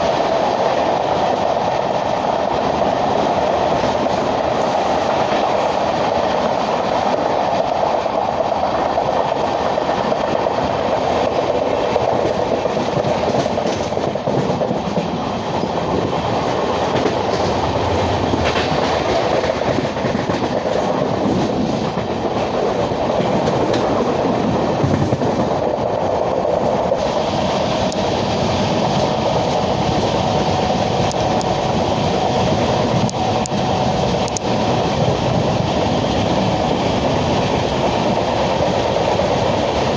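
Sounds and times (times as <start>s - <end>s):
rail joint clicks: 0.0s - 39.9s
train wheels rumbling on track: 0.0s - 39.9s.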